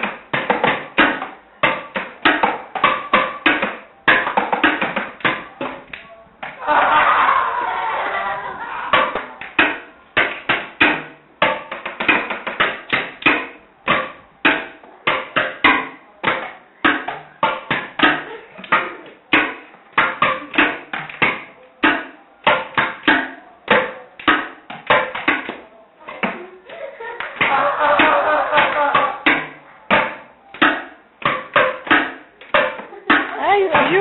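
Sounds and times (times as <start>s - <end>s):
household objects struck as drums: 0.0s - 6.6s, 8.8s - 26.5s, 27.2s - 34.0s.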